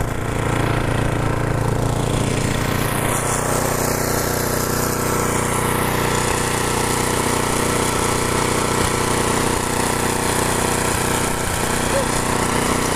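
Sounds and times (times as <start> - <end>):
small gasoline engine running: 0.0 - 12.9.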